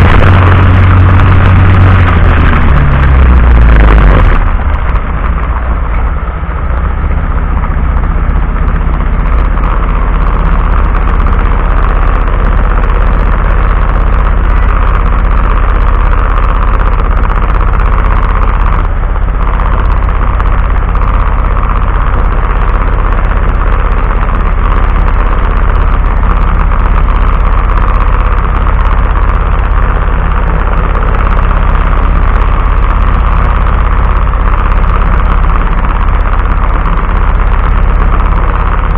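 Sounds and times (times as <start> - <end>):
vehicle driving in heavy rain: 0.0 - 38.9.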